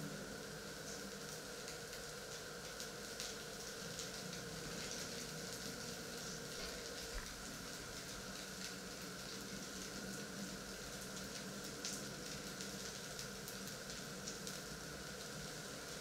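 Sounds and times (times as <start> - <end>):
low steady hum: 0.0 - 16.0
small crackles: 0.8 - 16.0.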